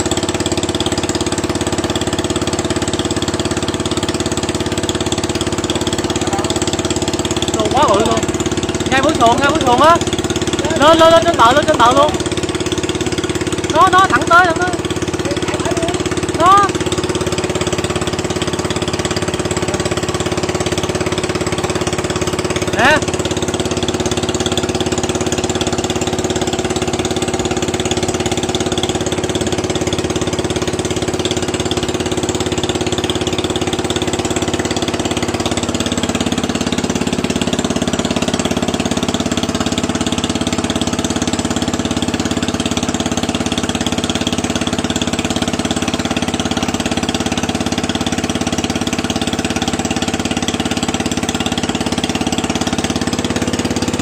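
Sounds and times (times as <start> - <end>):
water pump engine running: 0.0 - 54.0.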